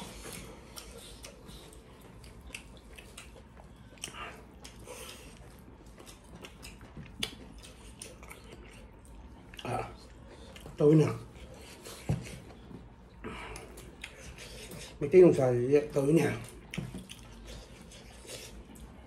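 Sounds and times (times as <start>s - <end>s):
people chewing and smacking: 0.0s - 19.0s.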